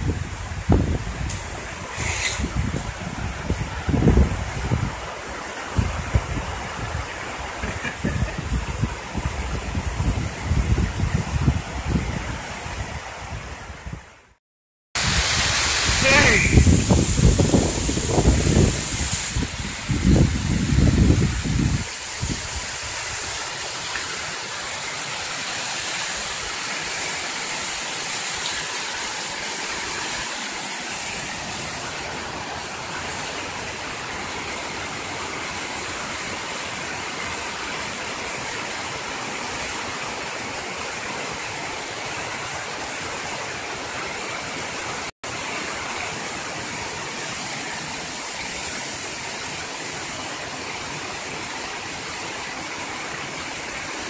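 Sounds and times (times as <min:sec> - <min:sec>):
waterfall rushing: 0:00.0 - 0:12.9, 0:15.0 - 0:54.0.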